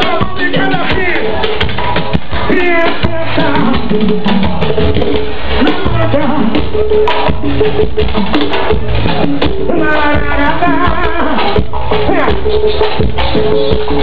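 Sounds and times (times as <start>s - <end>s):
live band music over loudspeakers: 0.0s - 14.0s.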